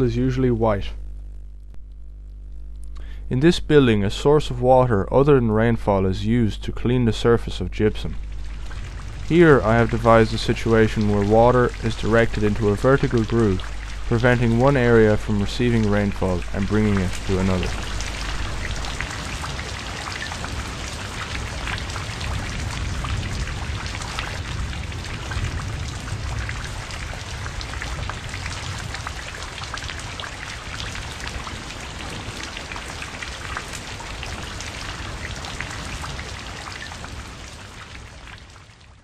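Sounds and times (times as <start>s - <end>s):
steady rain falling: 5.6s - 39.0s.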